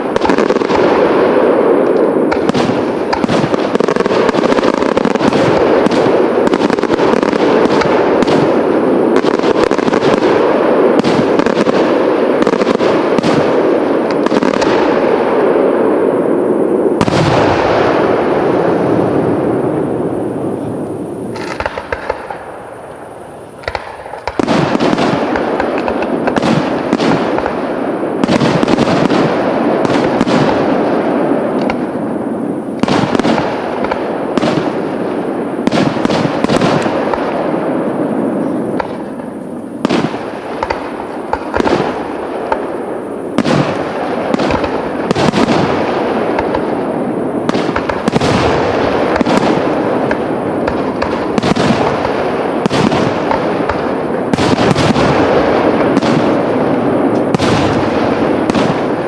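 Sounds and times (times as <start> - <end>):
fireworks shells bursting: 0.0 - 15.2, 20.6 - 59.0.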